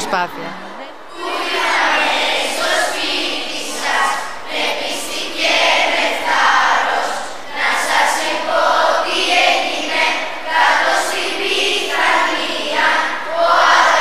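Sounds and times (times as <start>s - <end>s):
children's choir singing carols: 0.6s - 14.0s.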